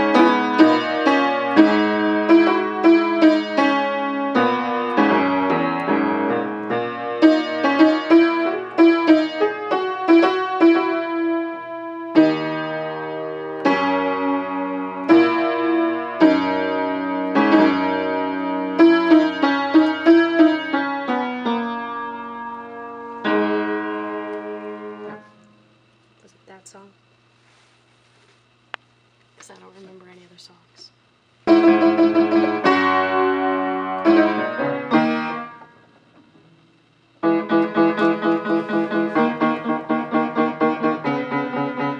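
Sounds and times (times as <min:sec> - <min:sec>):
piano melody: 0:00.0 - 0:25.5, 0:31.5 - 0:36.2, 0:37.1 - 0:41.9.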